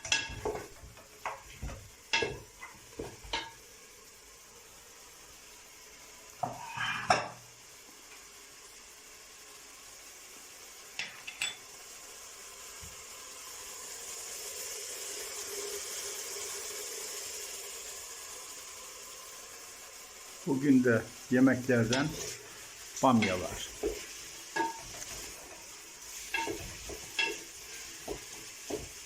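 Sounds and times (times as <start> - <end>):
food sizzling on a grill: 0.0 - 29.0.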